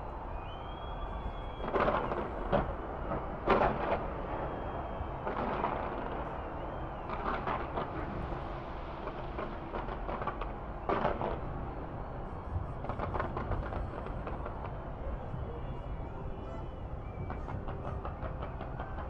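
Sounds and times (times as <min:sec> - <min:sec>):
outdoor city noise: 0:00.0 - 0:19.0.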